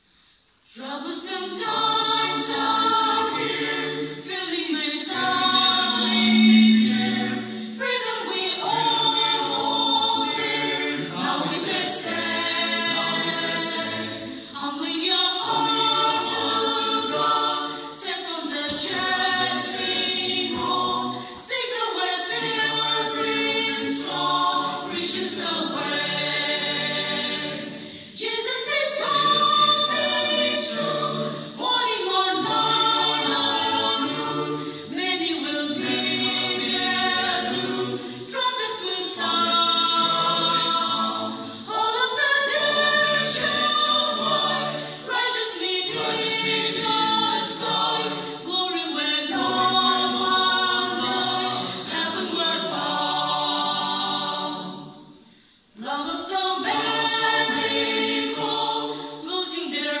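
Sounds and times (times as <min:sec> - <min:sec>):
mixed choir singing a cappella: 0:00.0 - 1:00.0.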